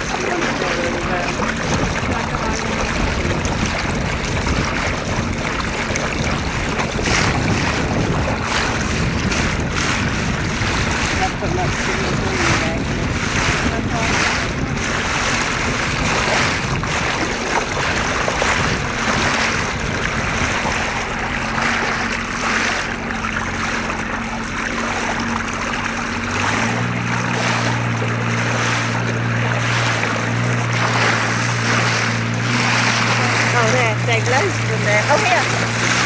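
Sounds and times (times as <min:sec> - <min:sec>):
boat motor humming: 0:00.0 - 0:36.0
water rushing and splashing: 0:00.0 - 0:36.0.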